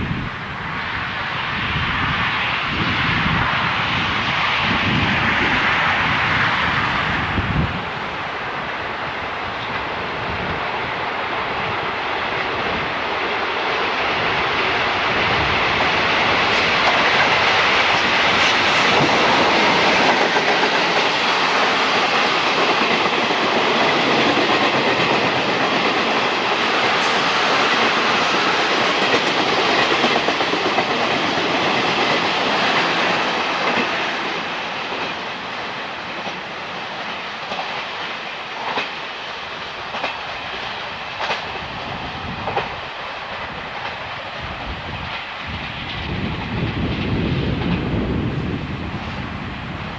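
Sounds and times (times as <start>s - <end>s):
train passing: 0.0s - 49.9s.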